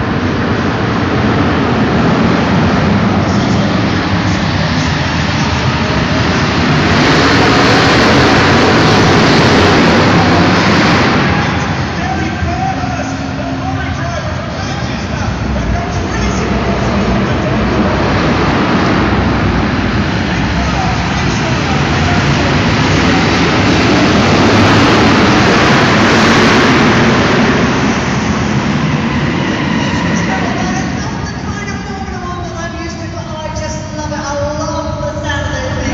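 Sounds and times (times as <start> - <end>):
race car engines running hard: 0.0 - 35.9.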